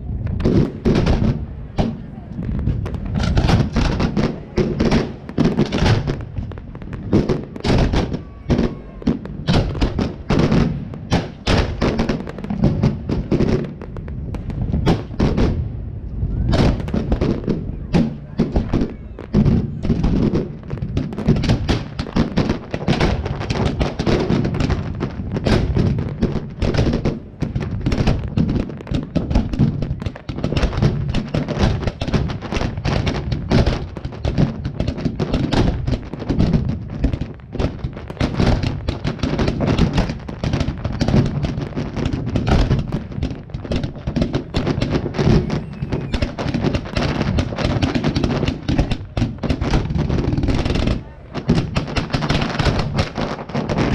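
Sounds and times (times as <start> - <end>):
deep low firework thumps: 0.0 - 53.9
fireworks bangs: 0.0 - 53.9.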